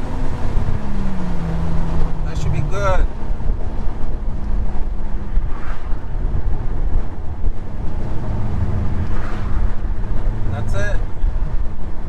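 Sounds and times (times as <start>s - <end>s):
car engine low rumble: 0.0s - 12.0s
road noise drone: 0.0s - 12.0s.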